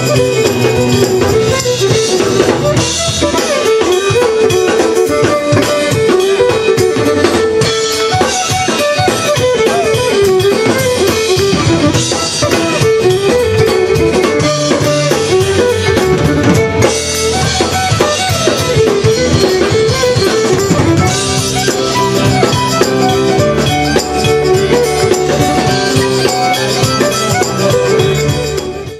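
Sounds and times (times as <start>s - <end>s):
band with guitar and drums: 0.0s - 28.9s.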